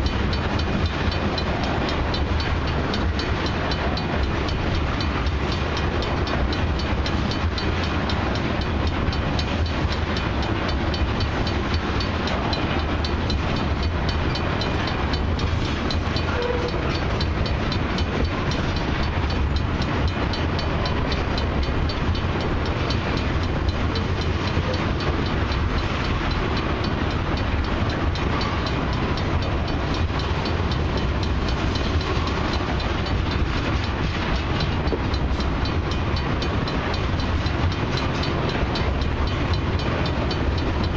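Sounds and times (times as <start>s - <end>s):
freight train wheels on rails: 0.0s - 40.9s
rapid clicking of train wheels: 0.0s - 40.9s.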